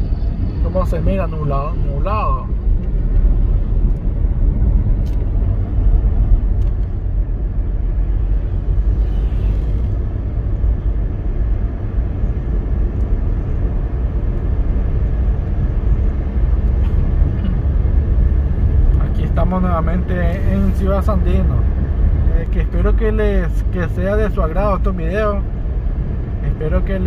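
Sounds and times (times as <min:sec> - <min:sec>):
car driving on highway: 0:00.0 - 0:27.0.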